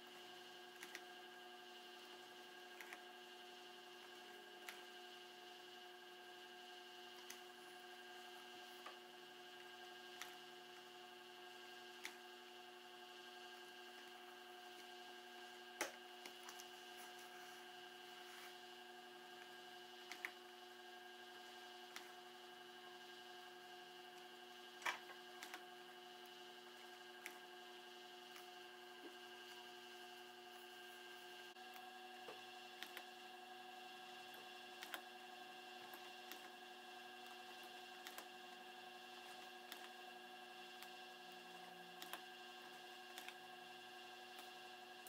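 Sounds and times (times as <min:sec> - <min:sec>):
sewing machine motor hum: 0:00.0 - 0:45.0.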